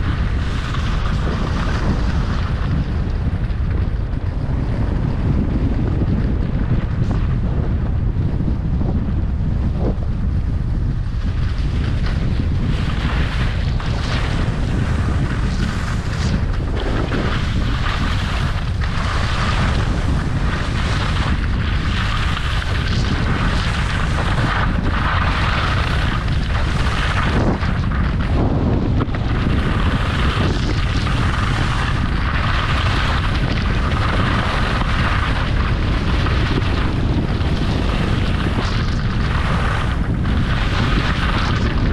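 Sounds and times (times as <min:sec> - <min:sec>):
skis scraping over snow: 0:00.0 - 0:41.9
wind buffeting microphone: 0:00.0 - 0:41.9.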